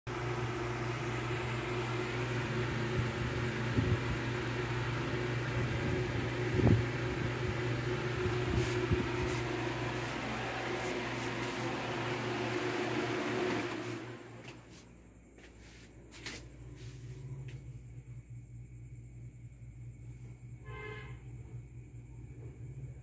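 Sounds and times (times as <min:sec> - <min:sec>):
electrical appliance humming: 0:00.1 - 0:23.0.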